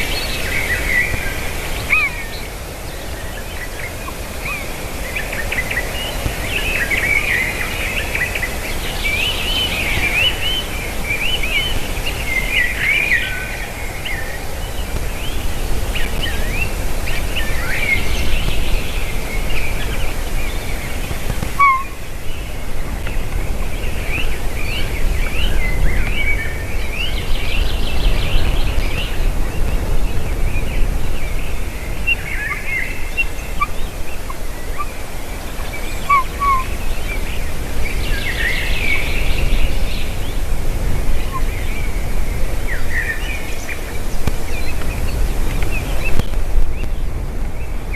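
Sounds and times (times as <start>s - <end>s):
birds chirping and whistling: 0.0s - 40.4s.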